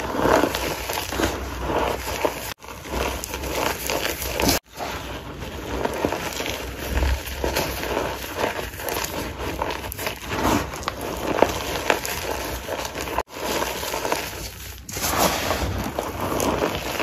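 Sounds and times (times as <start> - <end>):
chalk blocks being crushed: 0.0 - 17.0.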